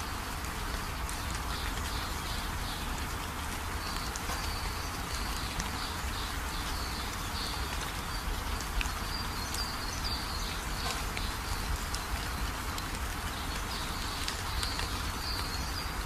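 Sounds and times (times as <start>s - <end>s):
rain drops ticking: 0.0s - 16.0s
steady rain falling: 0.0s - 16.0s.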